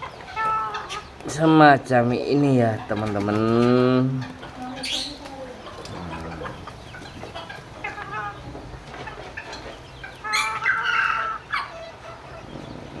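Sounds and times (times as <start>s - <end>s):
chickens clucking: 0.0s - 13.0s
steady low background noise: 0.0s - 13.0s.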